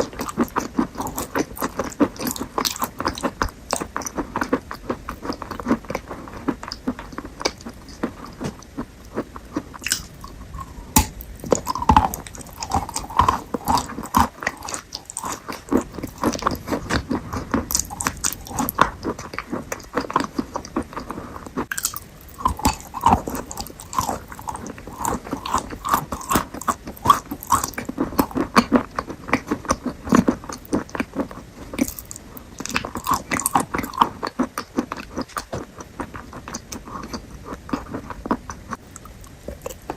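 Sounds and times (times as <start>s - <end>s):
crunchy chewing of fruit: 0.0s - 39.9s.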